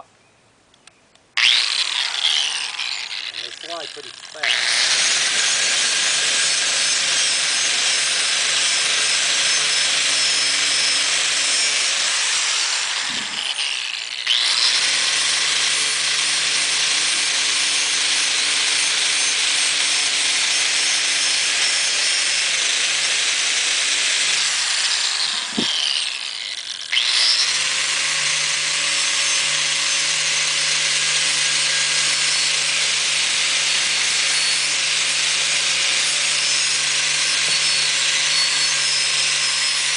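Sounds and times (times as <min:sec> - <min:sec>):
angle grinder on metal: 0:01.4 - 0:39.9.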